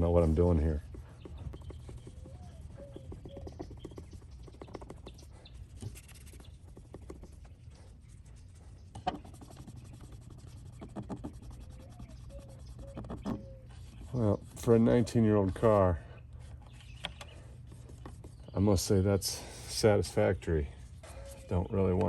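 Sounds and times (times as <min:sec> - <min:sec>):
rag scrubbing rusty metal: 0:00.0 - 0:21.6.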